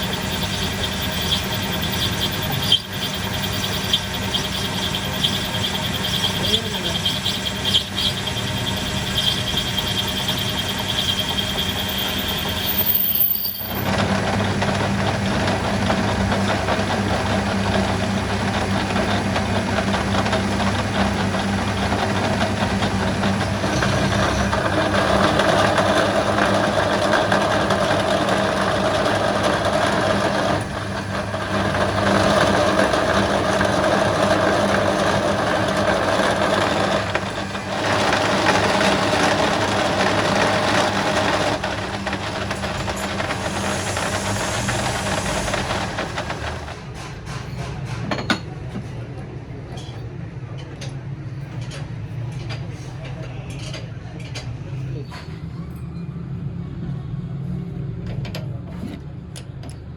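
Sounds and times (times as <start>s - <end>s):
workshop machine humming: 0.0s - 55.6s.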